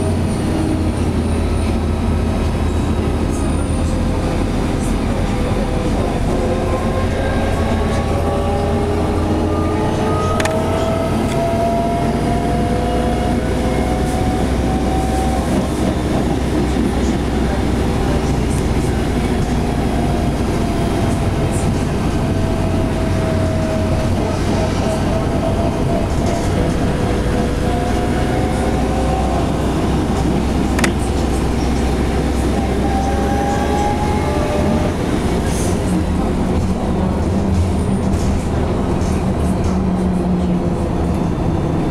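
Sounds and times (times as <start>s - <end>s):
bus engine drone with whine: 0.0s - 41.9s.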